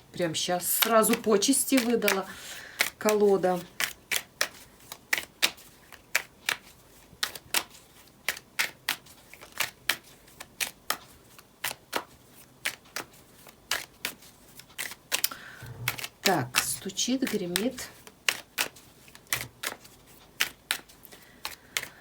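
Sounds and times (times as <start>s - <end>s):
cards being shuffled: 0.7s - 22.0s.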